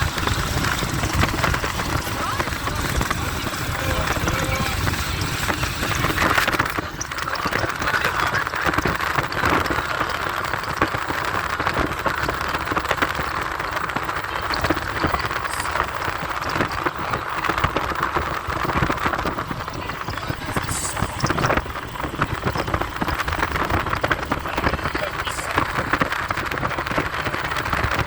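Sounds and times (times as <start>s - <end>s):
road and tyre noise: 0.0s - 28.0s.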